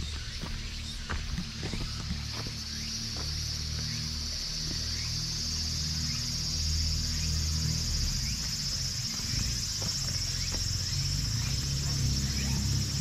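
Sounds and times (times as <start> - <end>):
insect chorus droning: 0.0 - 13.0.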